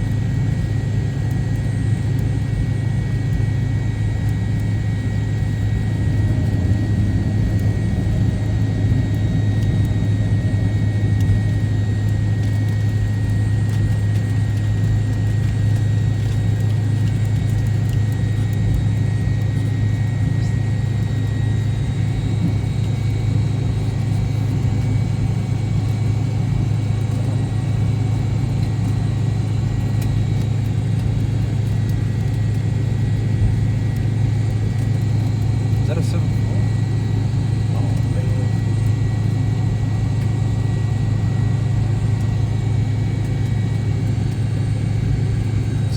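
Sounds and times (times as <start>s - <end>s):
airliner cabin rumble: 0.2s - 45.9s.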